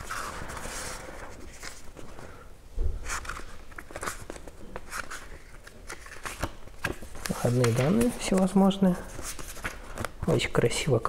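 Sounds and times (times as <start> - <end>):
book pages turning: 0.0 - 2.2, 3.0 - 10.4.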